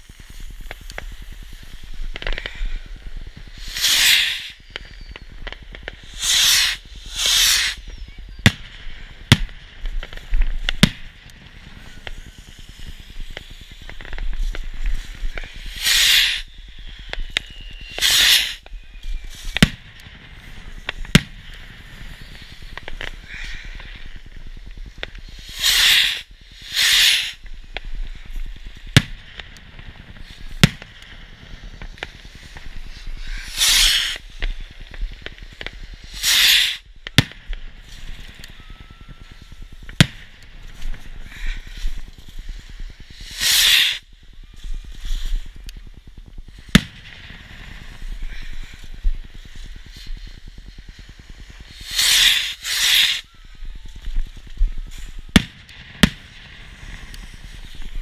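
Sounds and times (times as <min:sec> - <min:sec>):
fireworks bangs and crackles: 0:00.0 - 0:58.0
loud hissing bursts: 0:00.0 - 0:58.0.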